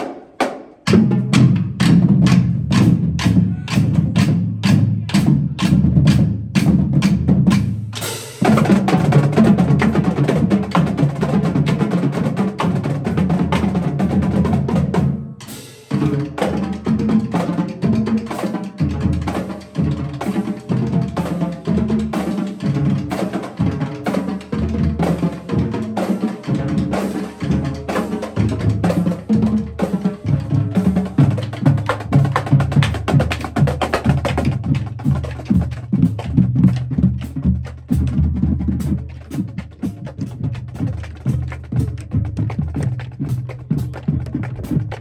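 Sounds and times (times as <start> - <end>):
marching drumline: 0.0 - 45.0.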